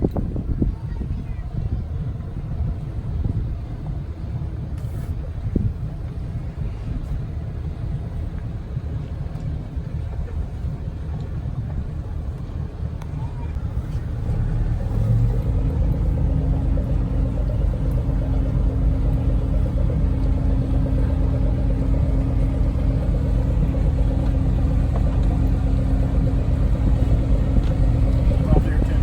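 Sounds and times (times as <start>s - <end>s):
boat engine rumbling: 0.0s - 29.0s.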